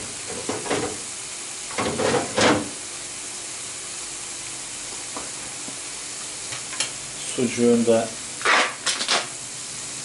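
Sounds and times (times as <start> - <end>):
butter sizzling in a pan: 0.0 - 10.0.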